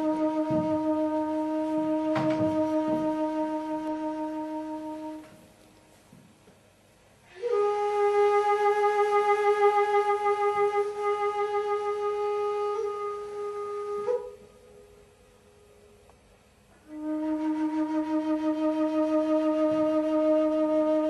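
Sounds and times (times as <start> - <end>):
flute-like long note: 0.0 - 5.4, 7.3 - 16.0, 16.8 - 21.0.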